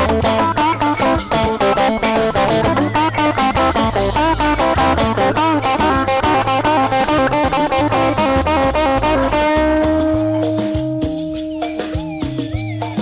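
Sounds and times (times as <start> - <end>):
cumbia band music: 0.0 - 13.0
guitar bending melody: 0.0 - 13.0.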